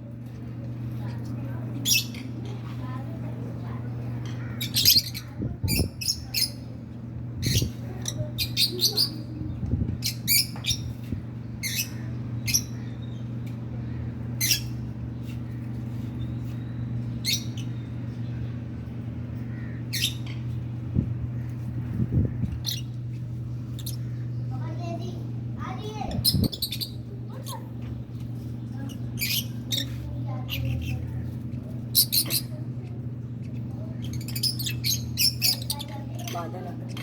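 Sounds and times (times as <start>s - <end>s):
steady low hum: 0.0s - 37.0s
lovebirds chirping and squawking: 0.2s - 37.0s.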